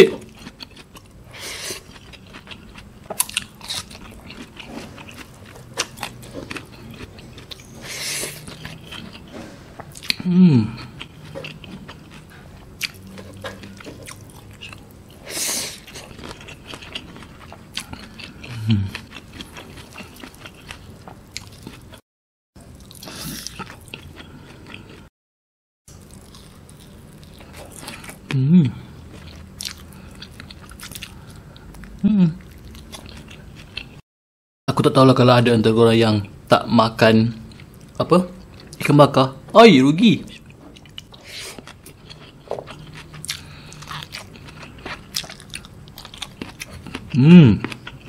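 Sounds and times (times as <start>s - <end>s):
person chewing and crunching: 0.0s - 22.0s, 22.6s - 25.1s, 25.9s - 34.0s, 37.4s - 39.2s, 40.2s - 48.0s.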